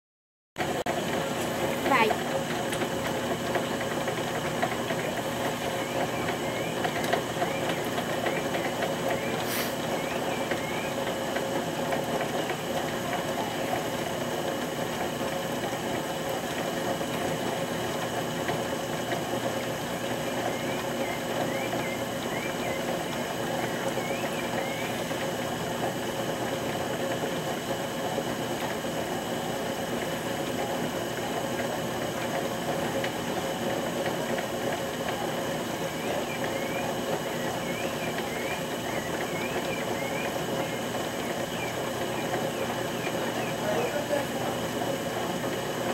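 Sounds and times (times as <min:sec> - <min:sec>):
potter's wheel humming: 0:00.6 - 0:45.9.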